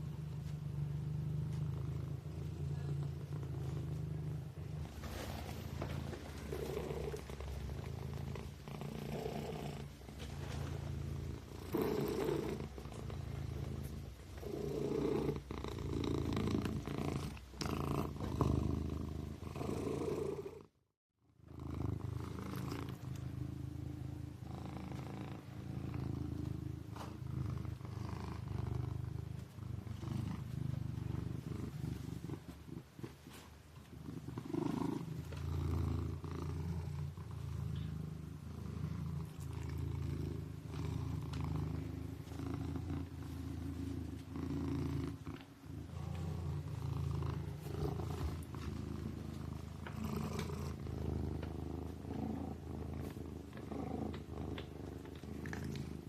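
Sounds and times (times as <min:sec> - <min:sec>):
kitten purring: 0:00.0 - 0:20.8, 0:21.4 - 0:56.0.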